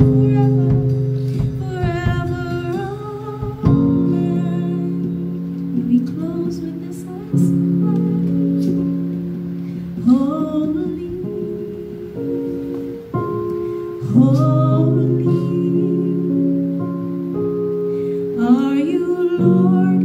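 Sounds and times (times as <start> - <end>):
person singing: 0.0 - 17.2, 18.2 - 20.0
sustained instrumental chords: 0.0 - 20.0.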